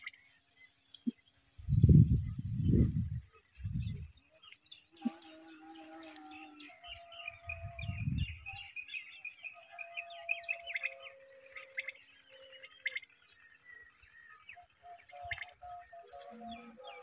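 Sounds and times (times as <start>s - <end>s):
small birds chirping and twittering: 0.0s - 17.0s.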